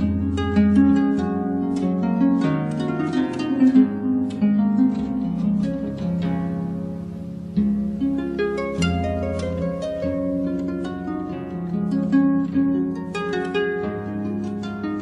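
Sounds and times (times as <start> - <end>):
harp-like plucked-string music: 0.0 - 15.0.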